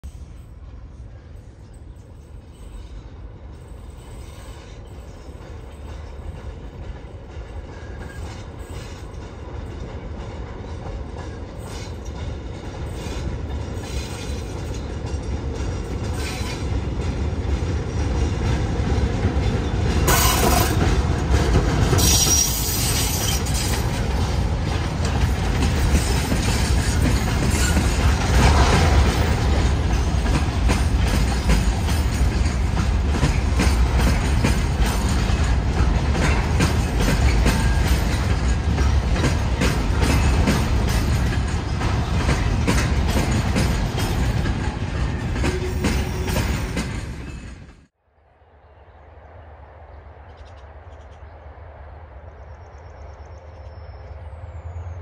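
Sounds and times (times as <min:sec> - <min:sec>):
train passing: 0:00.0 - 0:55.0
wheels clicking over rail joints: 0:01.6 - 0:47.8.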